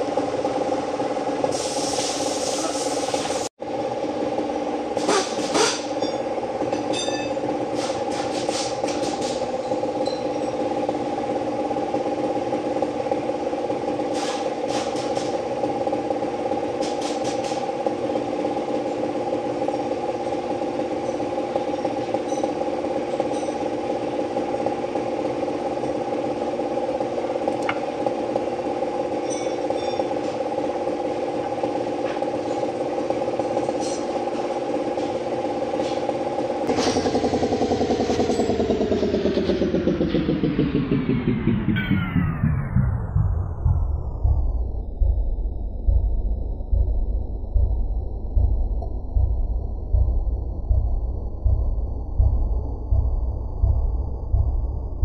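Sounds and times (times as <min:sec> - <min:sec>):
machine hum: 0:03.4 - 0:55.0.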